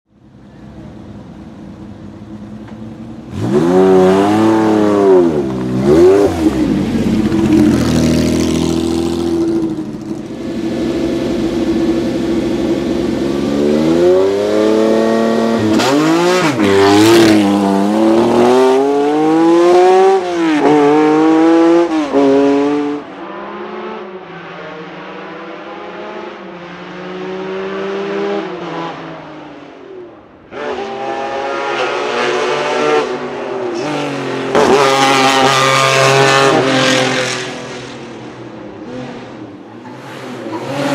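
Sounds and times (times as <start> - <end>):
car engine idling and revving: 0.2 - 40.9.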